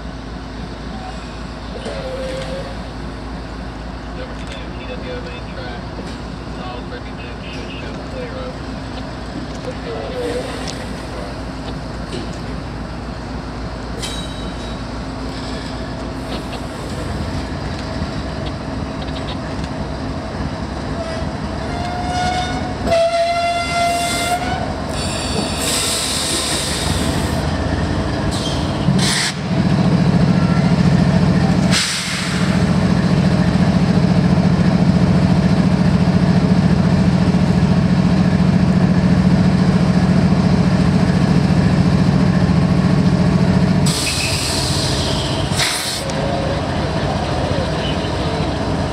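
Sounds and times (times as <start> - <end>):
diesel engine droning: 0.0 - 48.9
train wheels rumbling: 0.0 - 48.9.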